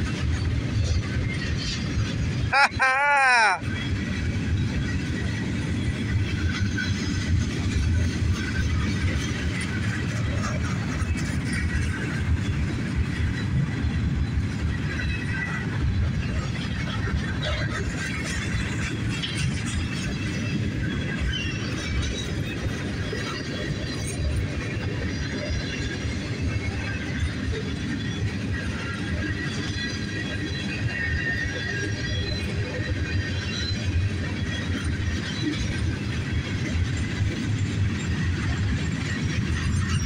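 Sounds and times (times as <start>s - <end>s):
freight train rolling past: 0.0s - 40.0s.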